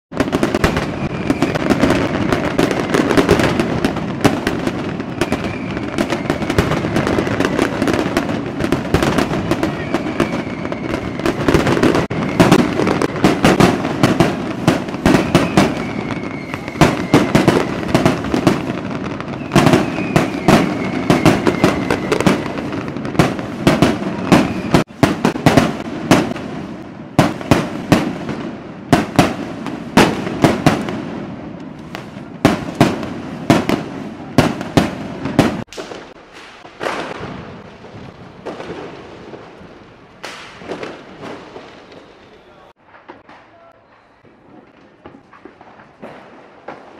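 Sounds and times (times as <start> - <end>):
fireworks banging: 0.1 - 46.9.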